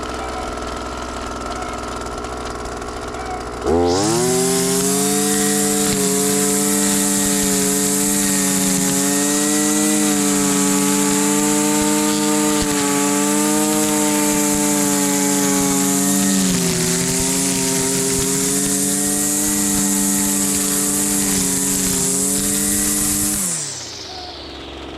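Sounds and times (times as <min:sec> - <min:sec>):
string trimmer engine at full throttle: 0:00.0 - 0:24.9.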